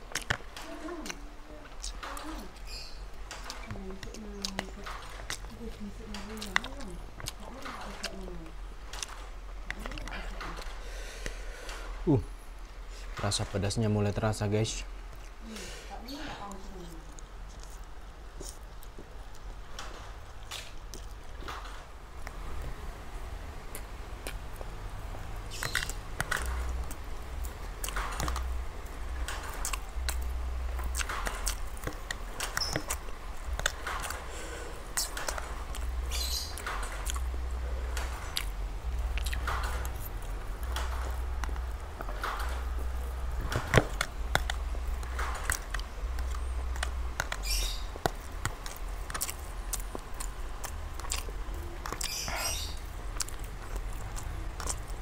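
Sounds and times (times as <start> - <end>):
chewing and wet mouth sounds: 0.0 - 11.9, 12.9 - 55.0.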